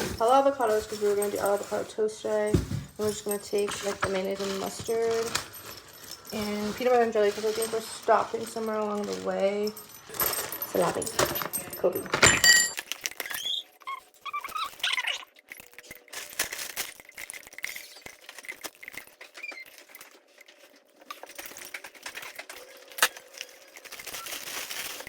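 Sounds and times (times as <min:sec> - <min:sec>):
small objects clicking and clattering: 0:00.0 - 0:25.0.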